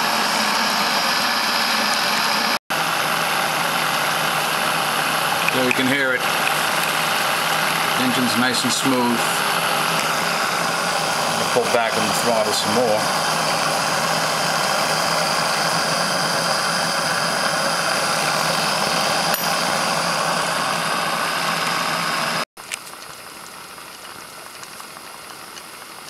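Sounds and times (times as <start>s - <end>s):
model steam engine hissing: 0.0s - 22.4s.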